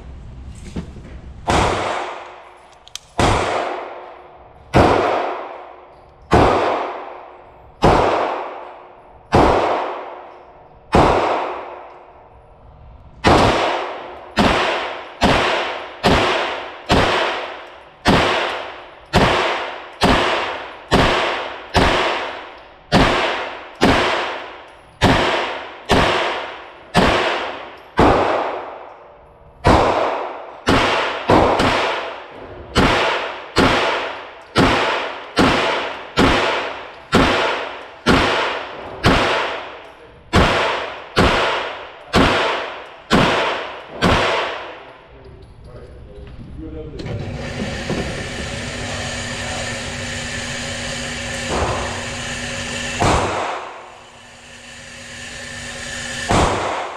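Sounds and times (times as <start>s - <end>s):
gunshots reverberating indoors: 0.4s - 45.6s, 47.8s - 56.9s.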